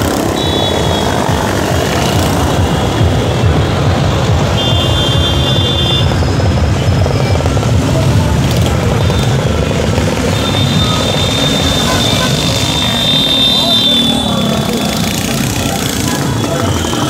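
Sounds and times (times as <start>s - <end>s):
heavy road traffic rumble: 0.0s - 17.0s.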